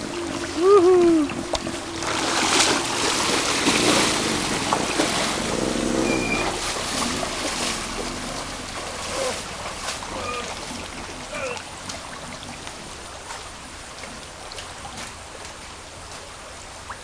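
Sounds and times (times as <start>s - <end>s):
river water rushing and splashing: 0.0s - 17.0s.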